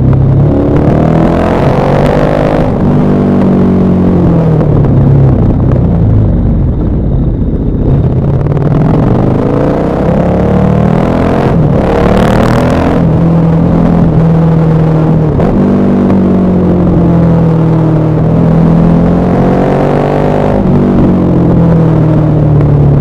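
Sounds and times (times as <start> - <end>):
motorcycle engine revving through gears: 0.0 - 23.0.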